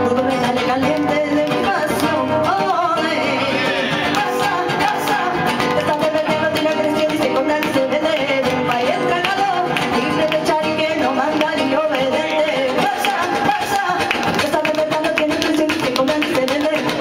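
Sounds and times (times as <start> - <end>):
nylon-string guitars strummed: 0.0 - 17.0
woman singing: 0.0 - 17.0
hand-clapping: 0.4 - 3.2, 4.0 - 17.0.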